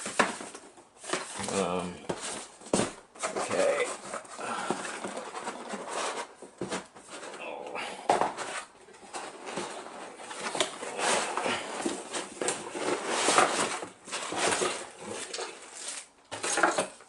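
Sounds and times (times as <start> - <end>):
packaging rustling: 0.0 - 7.4, 8.2 - 17.0.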